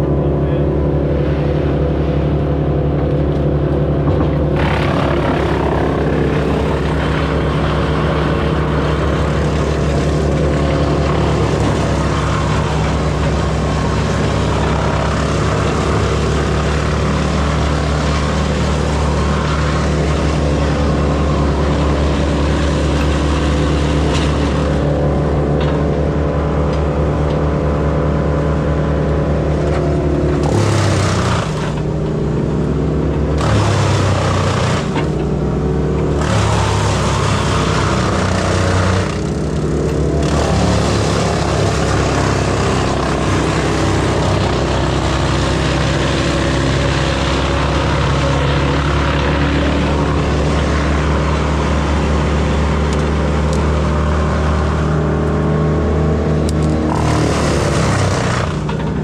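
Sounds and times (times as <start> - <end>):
excavator diesel engine running: 0.0 - 59.0
hydraulic work noise: 1.1 - 59.0.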